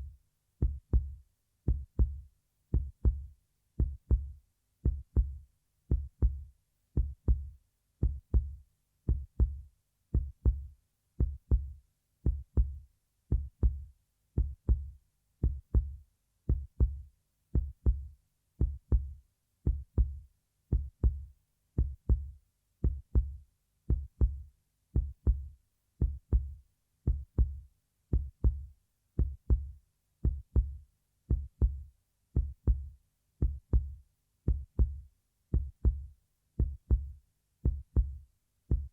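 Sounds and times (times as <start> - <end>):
heartbeat thumps: 0.0 - 17.0, 17.6 - 38.9.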